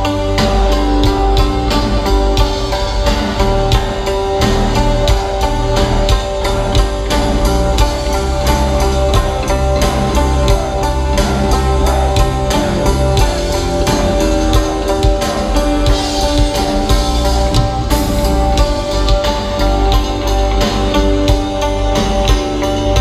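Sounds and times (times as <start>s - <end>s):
drum kit beat: 0.0s - 23.0s
electric guitars: 0.0s - 23.0s.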